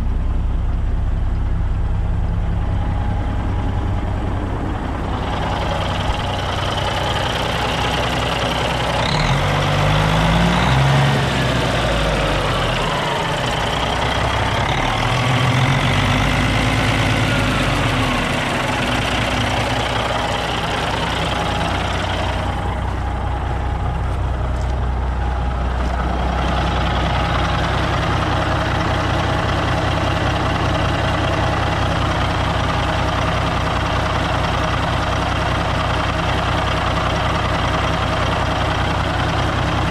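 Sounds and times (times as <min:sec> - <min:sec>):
diesel truck engine revving and idling: 0:00.0 - 0:39.9.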